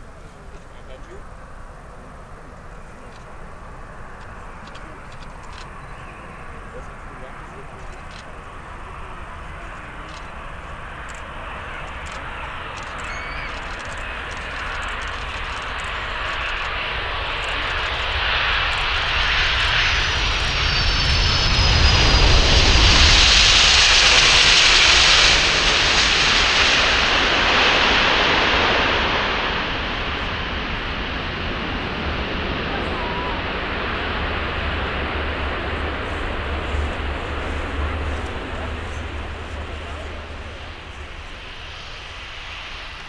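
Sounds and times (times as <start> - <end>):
jet engines roaring: 0.0 - 43.0
thin falling jet whine: 2.6 - 43.0.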